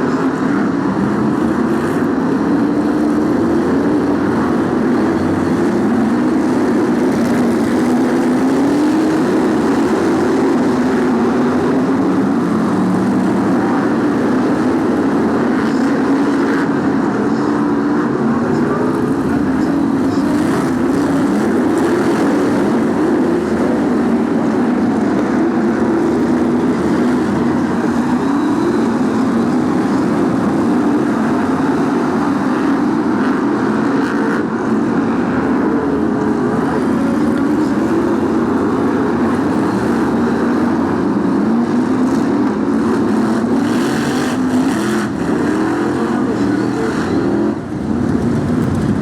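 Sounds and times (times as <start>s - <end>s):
racing car engines: 0.0s - 49.0s.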